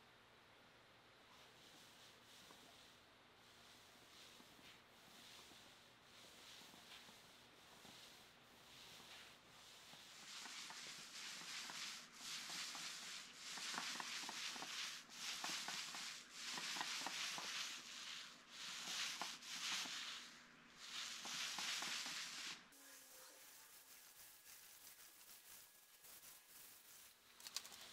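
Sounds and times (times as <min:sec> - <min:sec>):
paint roller wet rolling hiss: 0:01.3 - 0:27.9.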